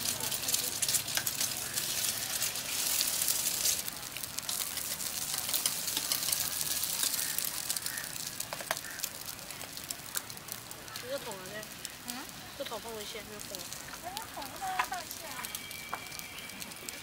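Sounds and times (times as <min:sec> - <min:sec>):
eggs sizzling on griddle: 0:00.0 - 0:17.0
small crackles and pops: 0:00.0 - 0:17.0.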